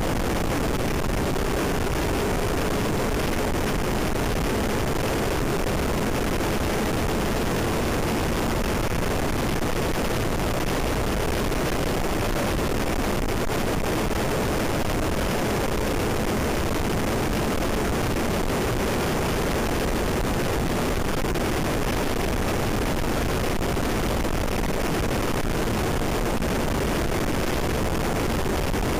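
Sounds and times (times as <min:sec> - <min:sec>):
motorcycle and road noise: 0:00.0 - 0:28.9
wind rushing on microphone: 0:00.0 - 0:28.9.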